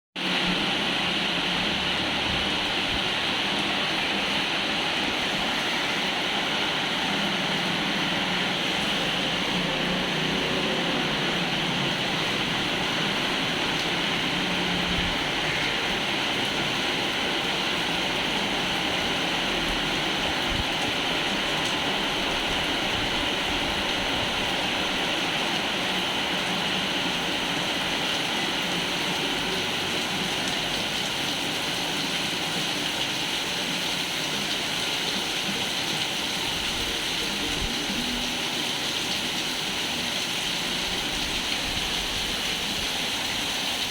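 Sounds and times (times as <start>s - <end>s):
rain falling on pond: 0.2s - 43.9s.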